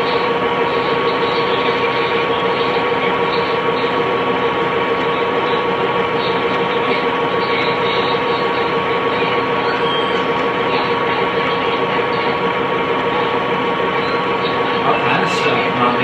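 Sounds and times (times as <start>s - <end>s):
video player whining drone: 0.0s - 16.0s.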